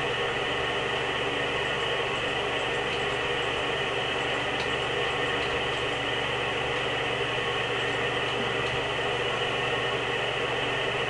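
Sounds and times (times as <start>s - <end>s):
mechanical hum and whir: 0.0s - 11.0s.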